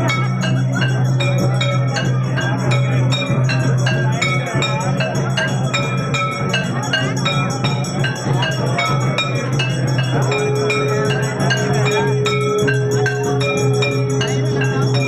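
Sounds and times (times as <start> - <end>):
temple bells ringing quickly: 0.0 - 15.0.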